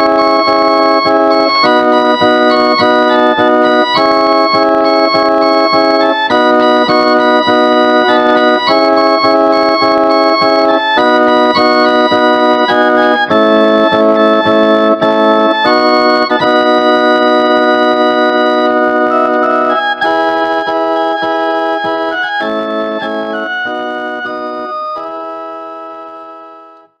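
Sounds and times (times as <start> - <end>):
instrumental backing music: 0.0 - 27.0.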